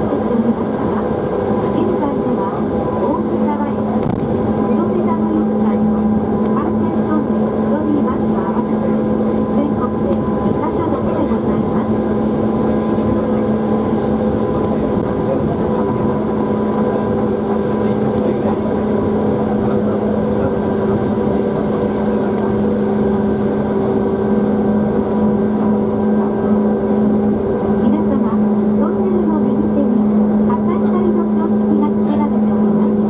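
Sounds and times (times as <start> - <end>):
trolleybus motor and tyres droning: 0.0 - 33.0.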